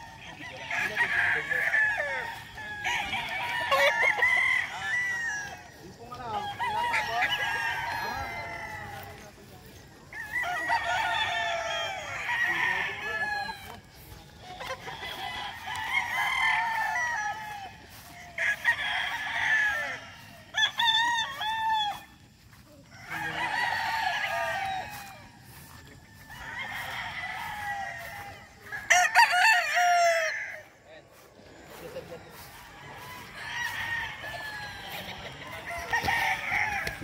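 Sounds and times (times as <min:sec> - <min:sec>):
roosters crowing: 0:00.0 - 0:37.0.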